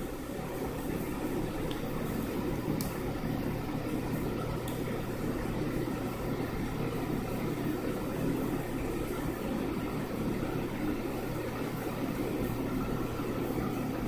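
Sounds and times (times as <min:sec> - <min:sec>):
low machine hum with rumble: 0:00.0 - 0:14.0.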